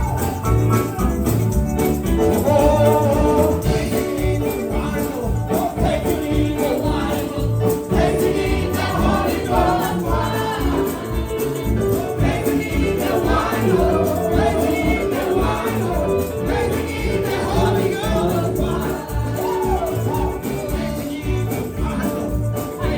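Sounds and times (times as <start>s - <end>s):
group singing gospel song: 0.0s - 22.9s.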